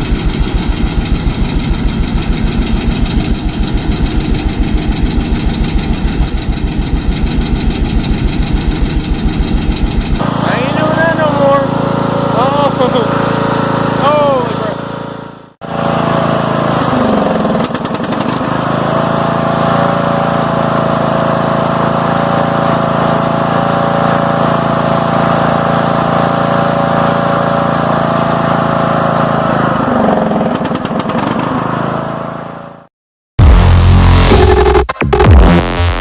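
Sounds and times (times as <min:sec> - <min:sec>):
lawn tractor engine running: 0:00.0 - 0:32.8.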